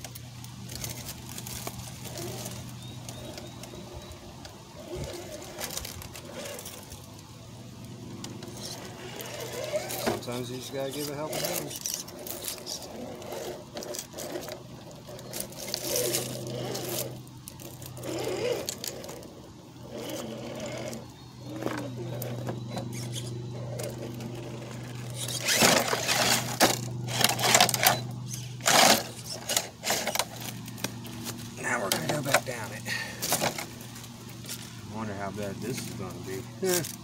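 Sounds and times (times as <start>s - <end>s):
electric motor whining: 0.0s - 7.2s, 7.8s - 37.0s.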